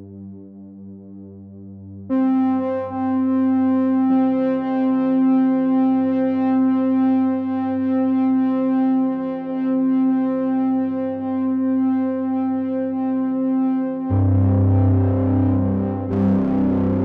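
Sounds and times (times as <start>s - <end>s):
sustained synthesizer chord: 0.0s - 17.0s.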